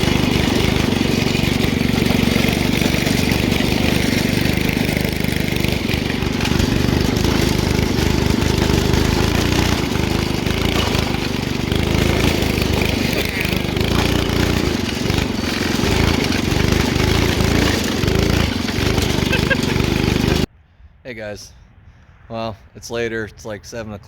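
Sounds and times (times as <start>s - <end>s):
engine running: 0.0s - 20.5s.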